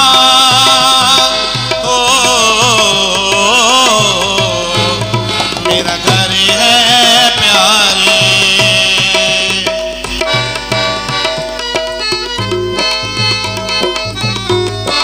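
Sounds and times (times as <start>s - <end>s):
harmonium held notes: 0.0s - 15.0s
tabla beat: 0.0s - 15.0s.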